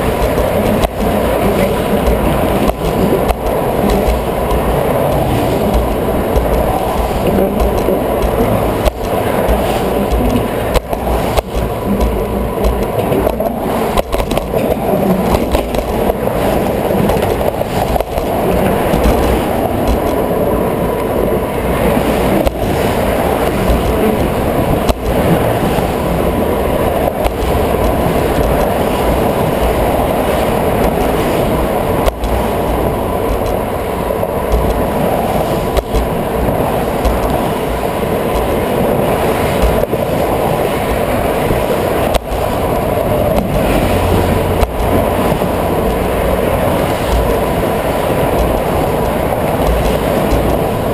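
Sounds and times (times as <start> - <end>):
bicycle rolling on concrete: 0.0 - 50.9
bike clicking over bumps: 0.0 - 50.9
traffic passing: 0.0 - 50.9.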